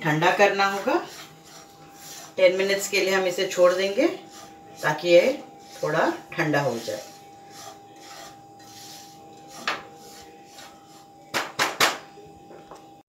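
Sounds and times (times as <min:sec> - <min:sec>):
spatula scraping pan: 0:00.0 - 0:11.3.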